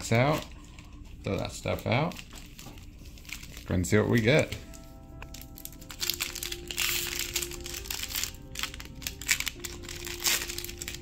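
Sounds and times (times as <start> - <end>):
foil wrapper crinkling and tearing: 0.0 - 11.0
soft background music: 0.0 - 11.0.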